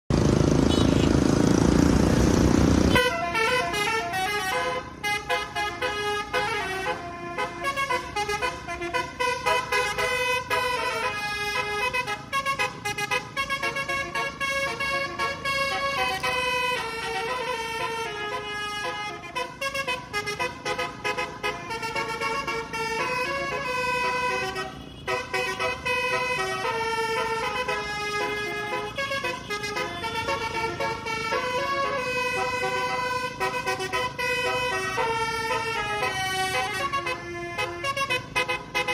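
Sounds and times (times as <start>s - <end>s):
multi-tone bus horn tune: 0.5s - 1.6s, 2.8s - 38.9s.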